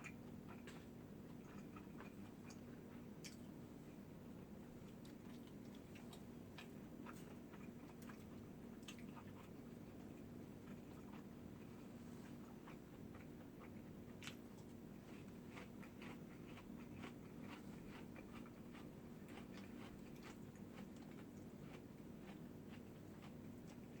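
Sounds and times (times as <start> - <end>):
person chewing: 0.0 - 3.5, 4.8 - 24.0
low steady hum: 0.0 - 24.0.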